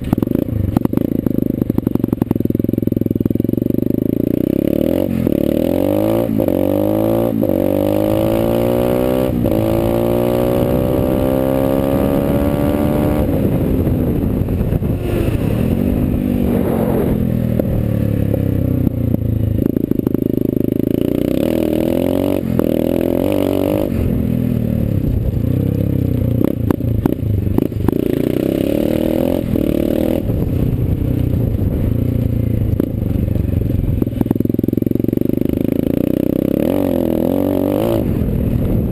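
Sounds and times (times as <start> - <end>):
dirt bike engine revving: 0.0 - 18.9, 19.5 - 25.2, 26.4 - 31.9, 34.0 - 38.3.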